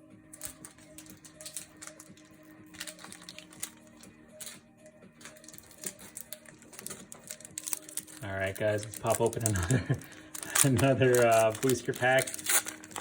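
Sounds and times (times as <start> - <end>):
cards clicking and rustling: 0.3 - 4.6, 5.2 - 13.0.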